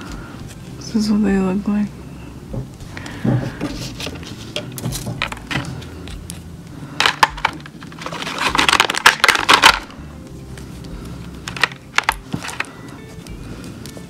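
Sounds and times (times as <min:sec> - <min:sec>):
plastic crackling: 0:02.6 - 0:14.0.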